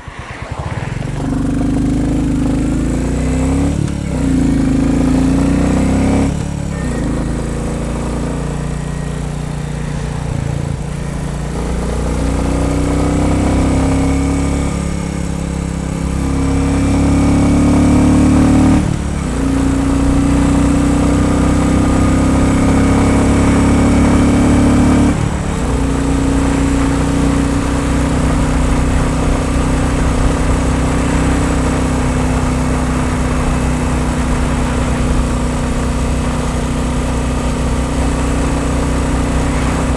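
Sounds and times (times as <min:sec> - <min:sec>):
motorcycle engine under load: 0:01.2 - 0:39.9.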